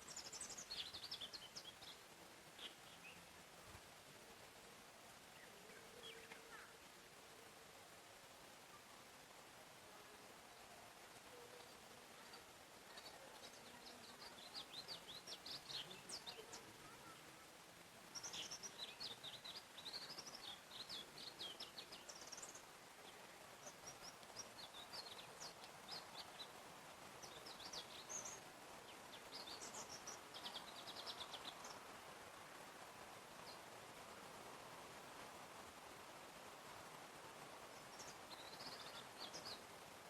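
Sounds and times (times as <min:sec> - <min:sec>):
faint steady hiss: 0:00.0 - 0:40.0
songbirds chirping and trilling: 0:00.0 - 0:40.0.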